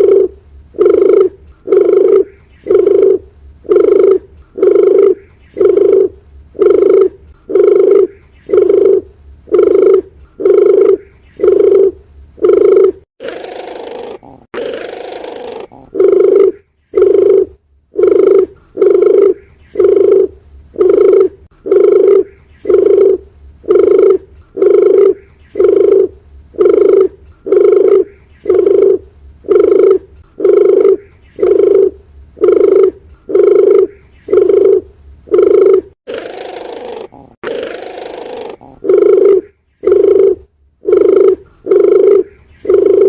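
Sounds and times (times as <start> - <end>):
dove cooing: 0.0 - 43.0.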